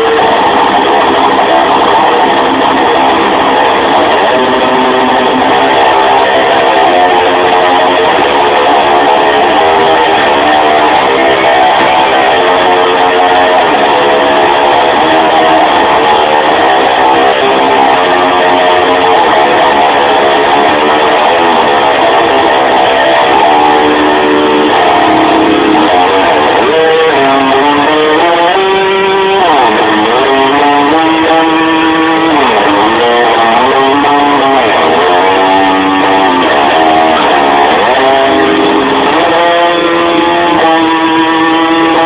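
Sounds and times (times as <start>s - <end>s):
electric guitar playing: 0.0s - 42.0s.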